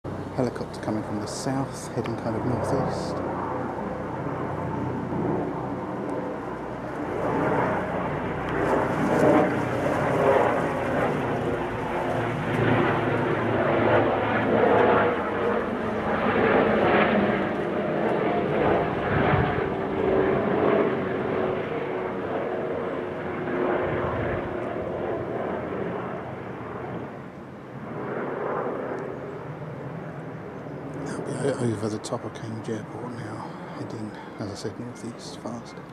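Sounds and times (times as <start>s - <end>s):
helicopter flying overhead: 0.0s - 35.9s.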